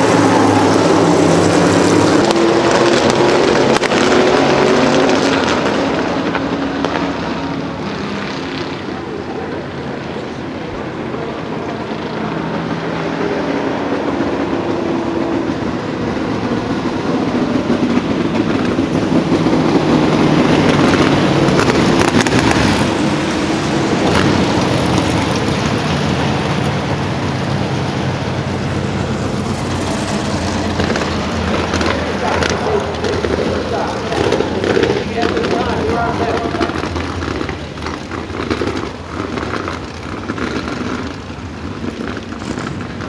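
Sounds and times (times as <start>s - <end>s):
race car engines passing: 0.0s - 43.0s.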